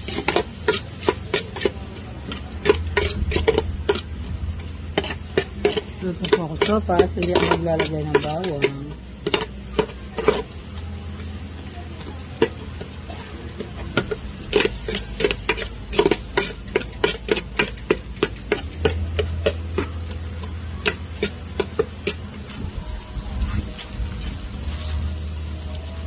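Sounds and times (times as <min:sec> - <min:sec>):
metal spatula scraping a pot: 0:00.0 - 0:11.3, 0:12.0 - 0:22.6
onions frying in oil: 0:00.0 - 0:26.0.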